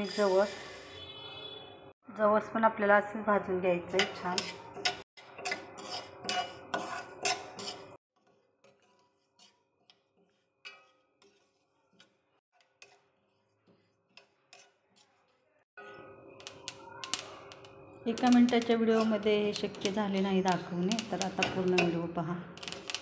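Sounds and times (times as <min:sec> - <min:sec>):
metal spoon scraping a pan: 0:00.0 - 0:01.0, 0:03.8 - 0:23.0.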